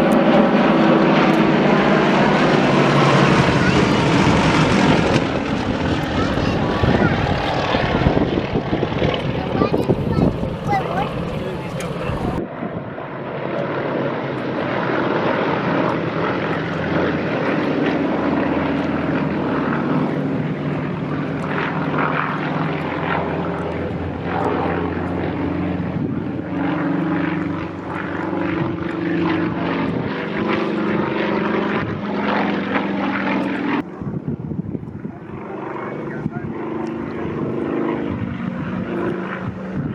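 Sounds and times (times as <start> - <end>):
light aircraft piston engine: 0.0 - 39.9.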